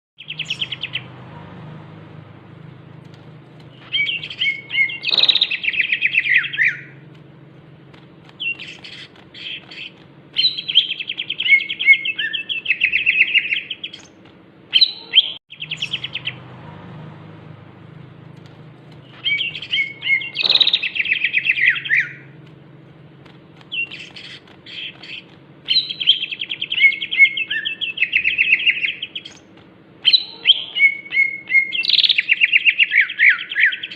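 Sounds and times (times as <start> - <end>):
bird singing rapid high notes: 0.2 - 1.2, 2.1 - 16.5, 17.8 - 33.9.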